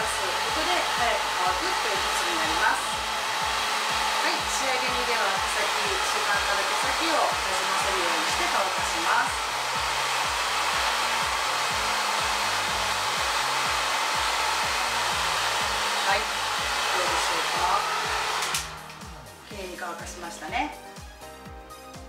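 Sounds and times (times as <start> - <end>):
hair dryer blowing: 0.0 - 21.3.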